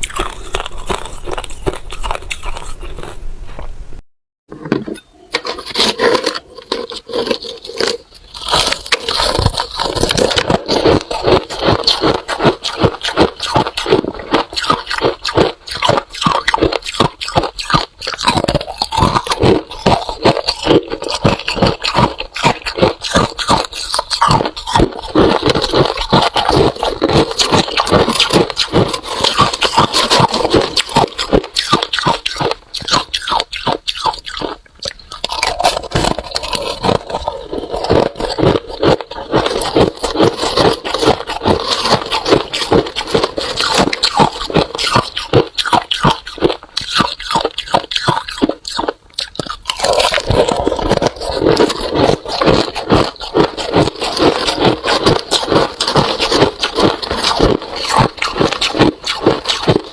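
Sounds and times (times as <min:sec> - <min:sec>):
chewing frost crunches: 0:00.0 - 0:03.7, 0:05.7 - 0:59.9.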